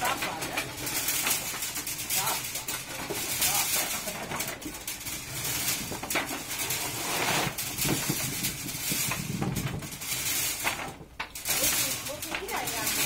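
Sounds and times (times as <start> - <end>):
potatoes rattling on shaking screens: 0.0 - 13.0.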